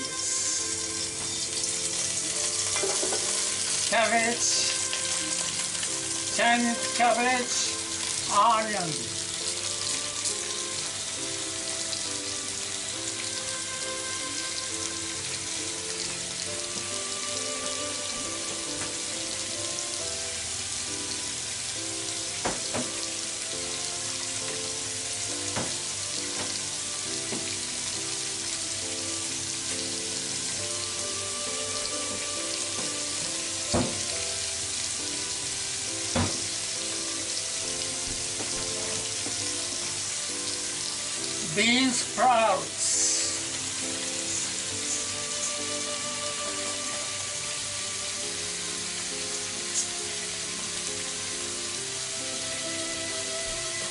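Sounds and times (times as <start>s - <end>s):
soft background music: 0.0s - 53.9s
vegetables sizzling in oil: 0.0s - 53.9s.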